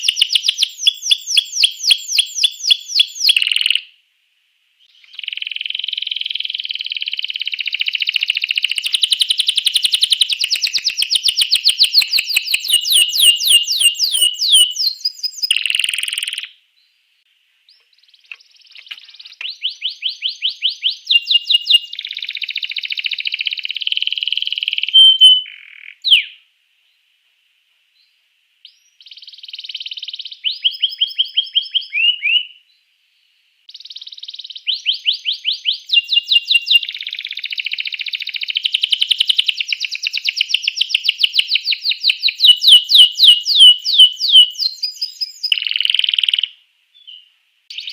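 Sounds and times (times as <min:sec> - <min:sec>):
canary singing trills and chirps: 0:00.0 - 0:03.9, 0:04.9 - 0:16.6, 0:17.7 - 0:26.4, 0:33.7 - 0:47.9.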